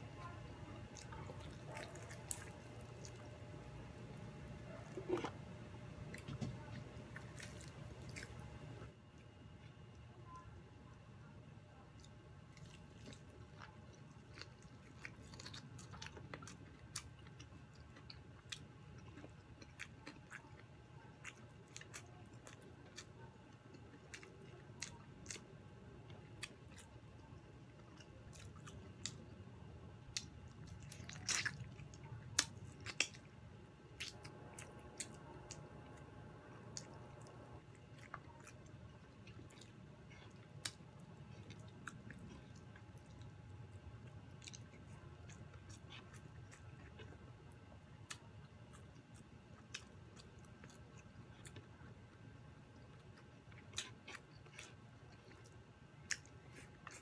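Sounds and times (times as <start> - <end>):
crunches while chewing: 0.2 - 10.0, 11.9 - 29.4, 30.1 - 57.0
person chewing food: 0.7 - 10.0, 11.9 - 29.4, 30.0 - 57.0.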